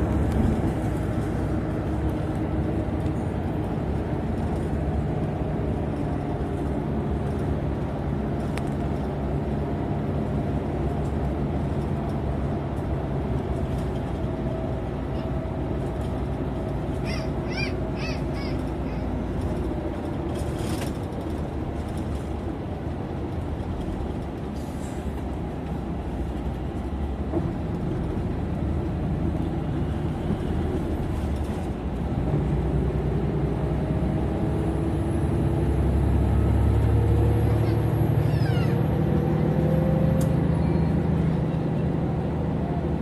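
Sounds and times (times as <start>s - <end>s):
vehicle engine and road noise: 0.0s - 43.0s.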